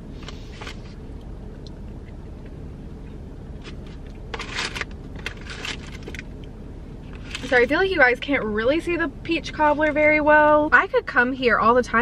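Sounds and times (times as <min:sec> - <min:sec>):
low hum in car cabin: 0:00.0 - 0:12.0.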